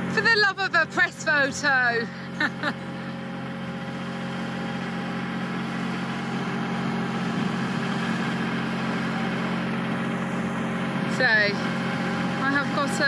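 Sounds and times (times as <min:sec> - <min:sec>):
boom lift power unit humming: 0:00.0 - 0:13.0.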